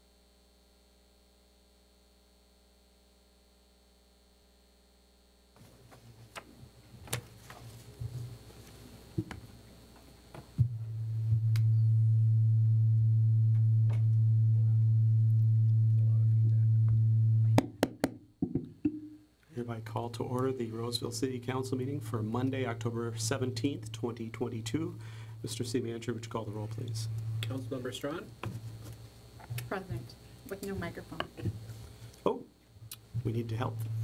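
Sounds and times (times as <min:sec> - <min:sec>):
faint room noise: 0:00.0 - 0:17.6, 0:18.6 - 0:34.0
loud electrical hum: 0:00.0 - 0:34.0.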